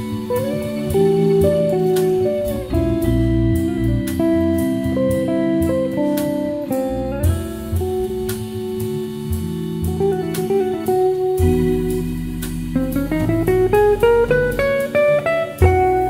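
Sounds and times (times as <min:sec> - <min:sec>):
drums and cymbals: 0:00.0 - 0:16.0
electric guitar single-note line: 0:00.0 - 0:16.0
organ chords: 0:00.0 - 0:16.0.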